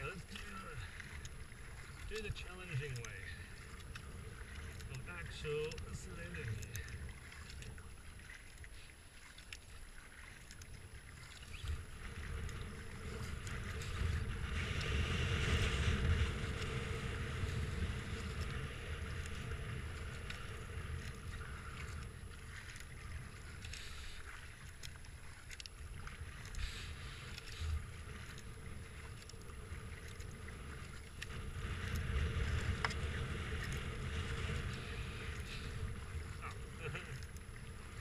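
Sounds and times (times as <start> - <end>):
wind rumble on microphone: 0.0 - 8.3, 11.1 - 23.8, 25.2 - 38.0
paddle splashing into water: 0.0 - 38.0
water washing along hull: 0.0 - 38.0.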